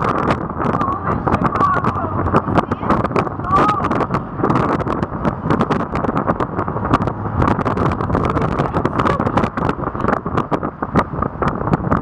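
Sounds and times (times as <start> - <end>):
boat engine rumble: 0.0 - 12.0
rushing water: 0.0 - 12.0
wind buffeting microphone: 0.0 - 12.0.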